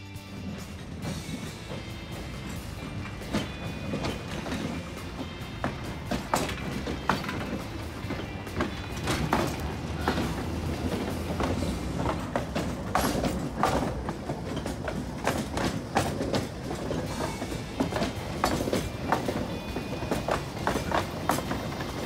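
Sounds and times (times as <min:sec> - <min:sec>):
tram rumbling past: 0:00.0 - 0:22.0
wheels knocking over rail joints: 0:00.1 - 0:22.0.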